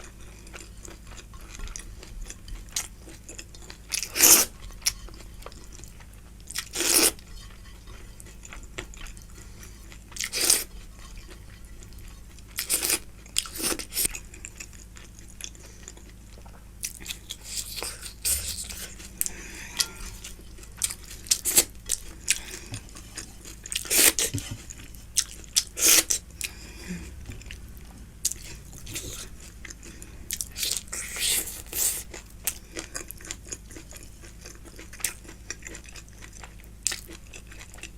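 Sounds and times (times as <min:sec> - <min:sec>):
chewing and crunching: 0:00.0 - 0:37.9
faint low hum: 0:00.0 - 0:37.9.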